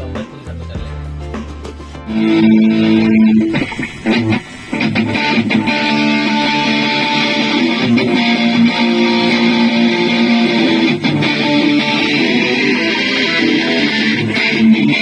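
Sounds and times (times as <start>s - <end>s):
electric guitar chords strummed: 0.0s - 15.0s.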